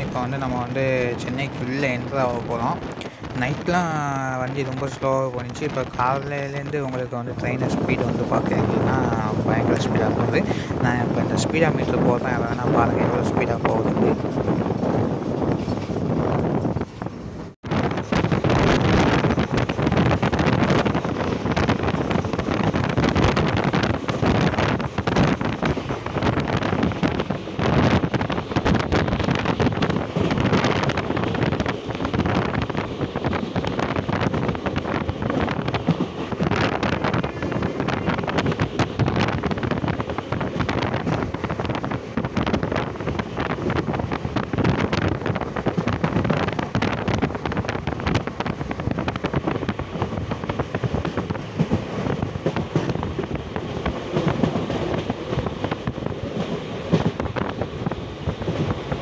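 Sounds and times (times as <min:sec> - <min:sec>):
train rumbling on track: 0:00.0 - 0:59.0
wind rushing over microphone: 0:00.0 - 0:59.0.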